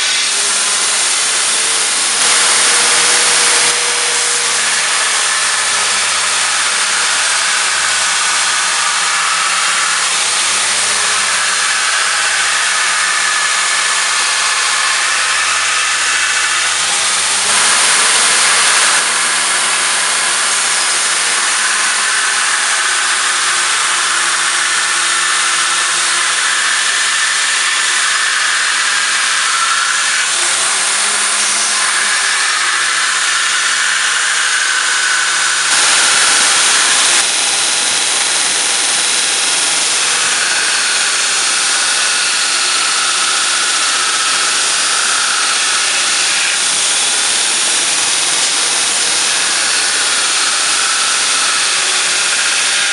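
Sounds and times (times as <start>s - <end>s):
belt grinder grinding steel: 0.0s - 52.9s.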